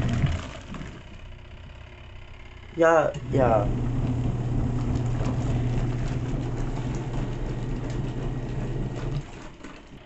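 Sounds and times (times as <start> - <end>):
washing machine churning: 0.0 - 10.0
washing machine motor hum: 0.0 - 10.0.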